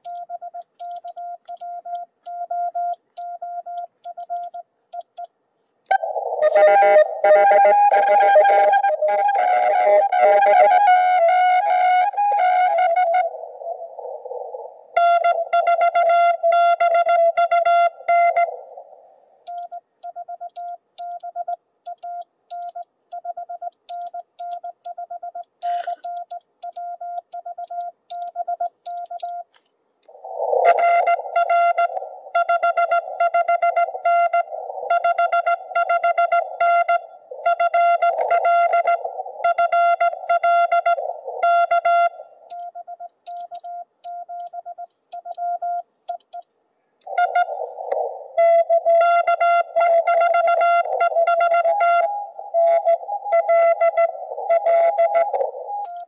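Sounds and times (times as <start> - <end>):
morse code tone: 0.0 - 10.6, 19.4 - 29.5, 30.5 - 46.4, 47.1 - 56.0.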